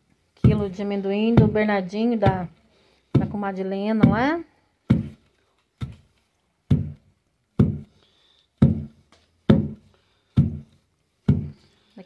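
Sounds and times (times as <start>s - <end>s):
wooden pestle thudding in mortar: 0.4s - 6.1s, 6.7s - 8.0s, 8.6s - 11.7s.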